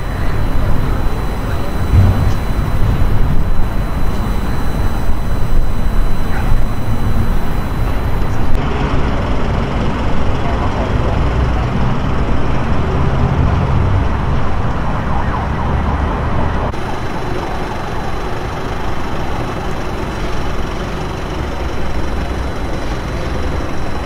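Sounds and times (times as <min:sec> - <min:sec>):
traffic noise with low rumble: 0:00.0 - 0:24.0.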